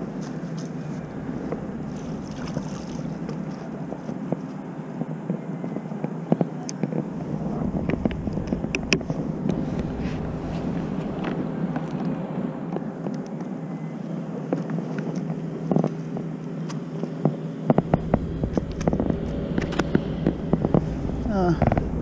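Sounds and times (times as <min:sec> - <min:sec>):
wind on microphone: 0:00.0 - 0:16.4, 0:17.0 - 0:22.0.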